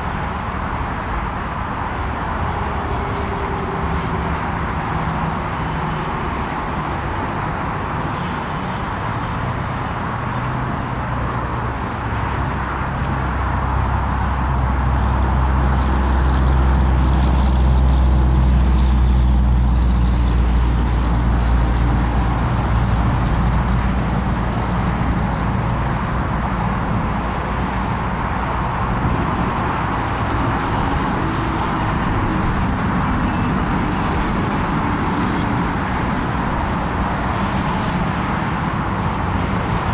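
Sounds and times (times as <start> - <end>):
jet engines rumbling: 0.0 - 9.8, 13.0 - 39.9.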